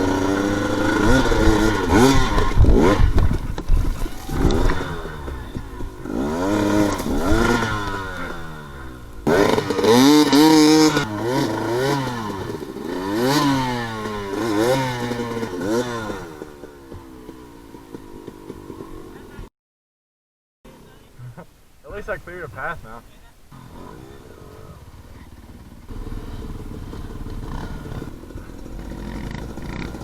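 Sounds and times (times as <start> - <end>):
dirt bike engine revving: 0.0 - 19.5, 20.7 - 30.0.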